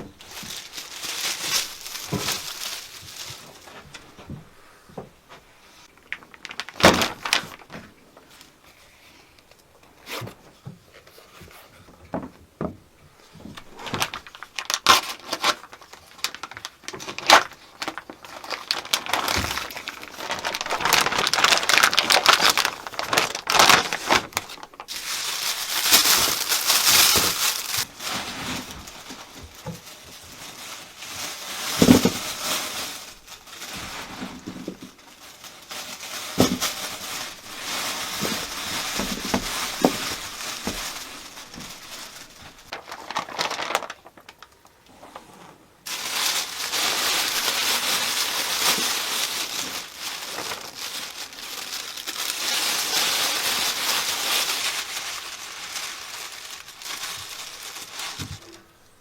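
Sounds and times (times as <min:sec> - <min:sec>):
rustling and crackling: 0:00.0 - 0:59.0.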